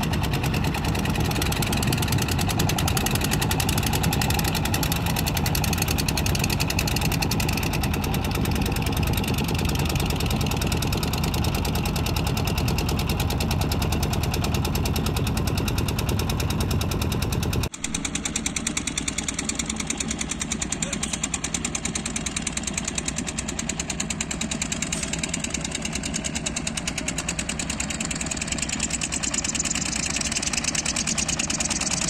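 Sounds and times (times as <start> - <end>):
diesel engine running steadily: 0.0 - 32.0.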